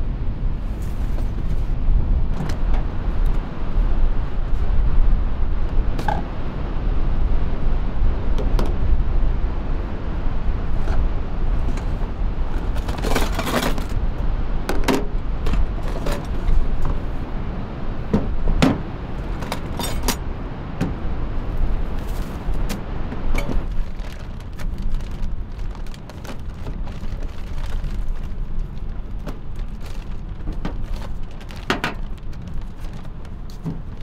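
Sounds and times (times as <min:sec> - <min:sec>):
low vehicle rumble: 0:00.0 - 0:34.0.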